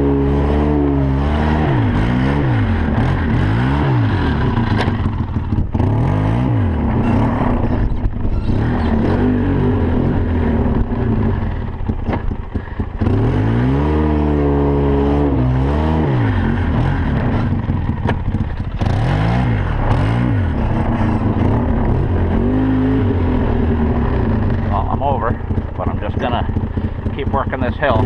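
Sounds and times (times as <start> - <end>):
quad bike engine revving: 0.0 - 28.0.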